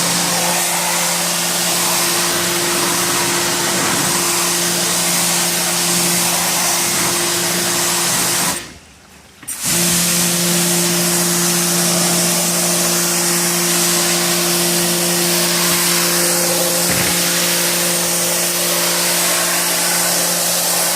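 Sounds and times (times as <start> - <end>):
cleaning machine motor running: 0.0 - 8.6, 9.6 - 20.9.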